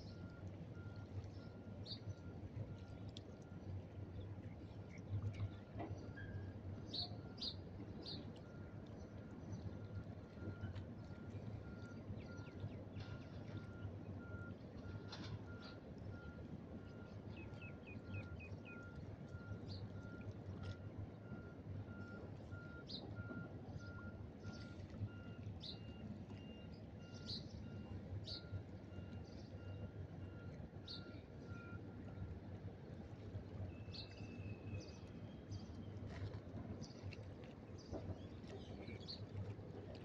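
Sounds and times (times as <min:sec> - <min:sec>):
water: 0:00.0 - 0:40.0
wind: 0:00.0 - 0:40.0.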